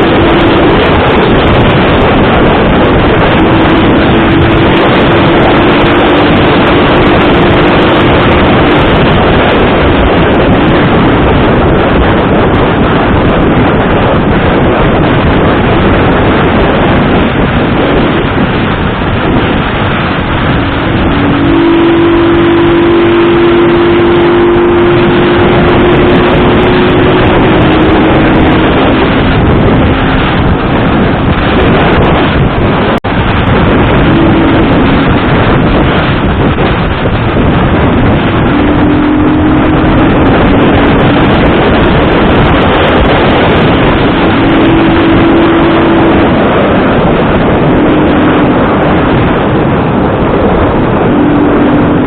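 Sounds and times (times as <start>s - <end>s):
vehicle running: 0.0s - 52.0s
wind rushing: 0.0s - 52.0s.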